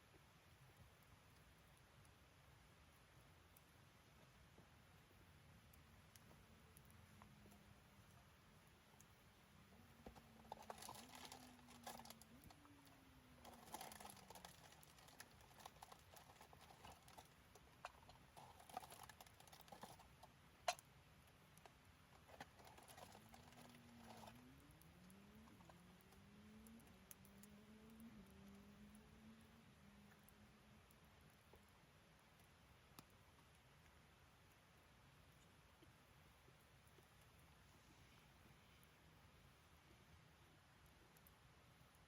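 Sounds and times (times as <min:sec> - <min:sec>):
wood fire crackling: 0:00.1 - 0:37.6.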